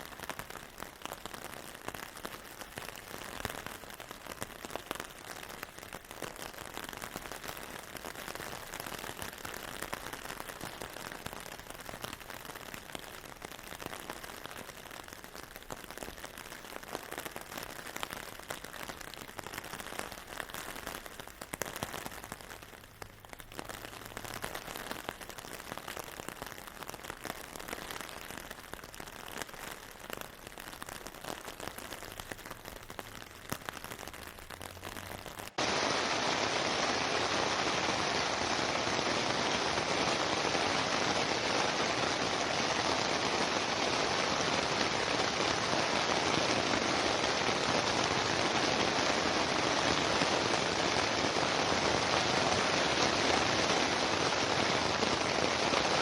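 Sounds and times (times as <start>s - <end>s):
dense rain hiss: 0.0s - 56.0s
rain pattering: 0.0s - 56.0s.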